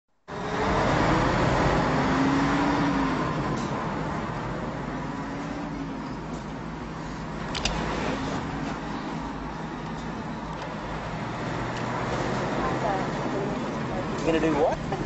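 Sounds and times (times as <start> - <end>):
car tyre and engine noise: 0.2 - 15.0.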